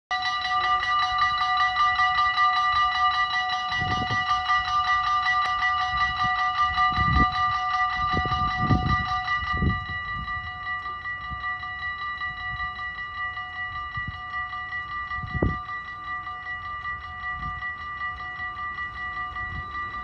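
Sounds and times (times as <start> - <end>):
level crossing warning bells: 0.1 - 20.0.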